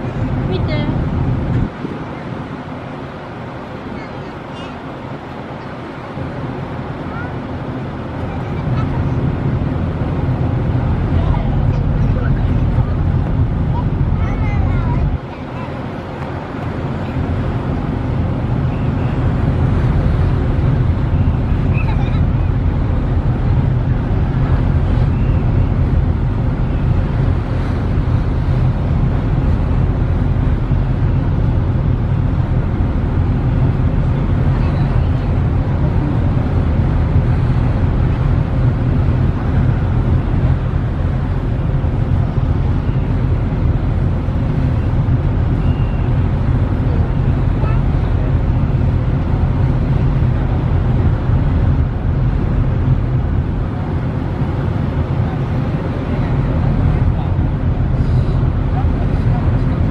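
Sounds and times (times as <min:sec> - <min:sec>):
ferry engine drone: 0:00.0 - 0:59.9
rushing water noise: 0:00.0 - 0:59.9.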